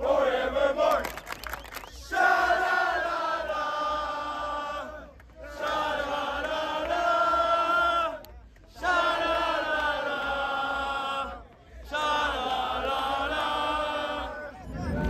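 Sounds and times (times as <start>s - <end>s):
crowd chanting in unison: 0.0s - 1.3s, 1.9s - 15.0s.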